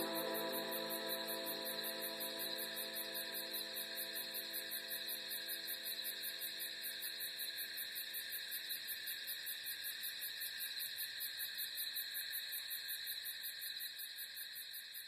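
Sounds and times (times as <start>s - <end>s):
crickets chirping: 0.0s - 15.0s
steady high insect trill: 0.0s - 15.0s.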